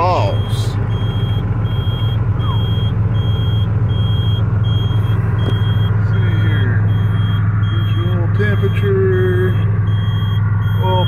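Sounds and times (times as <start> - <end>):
dash warning beeper pulsing: 0.0 - 11.0
diesel truck engine idling: 0.0 - 11.0.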